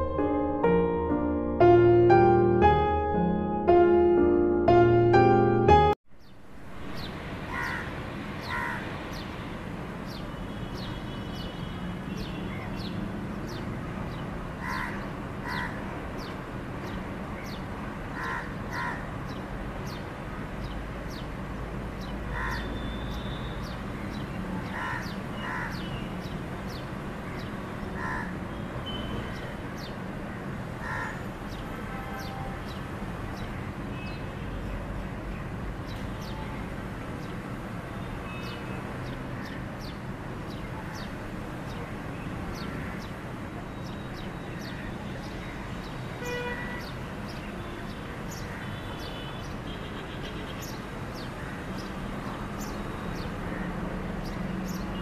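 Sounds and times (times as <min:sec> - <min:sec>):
sparrows chirping: 0:06.2 - 0:55.0.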